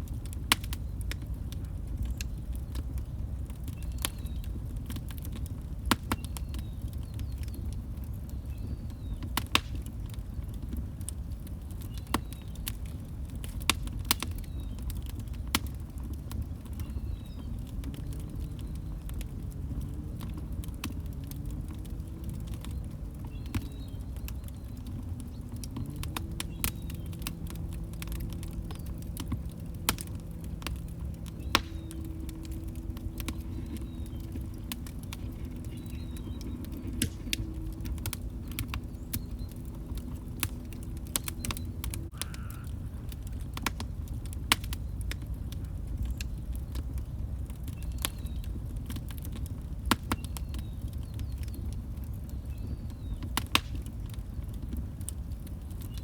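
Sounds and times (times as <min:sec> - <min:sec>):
low steady hum: 0:00.0 - 0:49.7
log fire crackling: 0:00.0 - 0:56.0.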